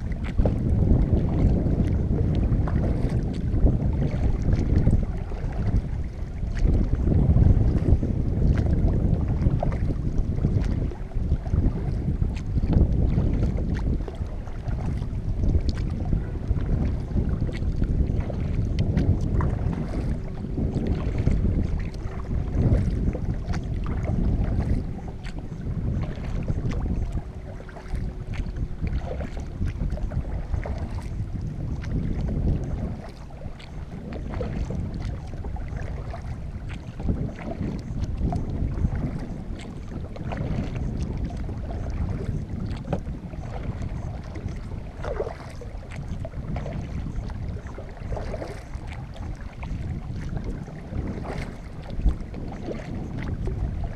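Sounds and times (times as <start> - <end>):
paddle splashing water: 0.0 - 53.9
wind rumbling on microphone: 0.0 - 53.9.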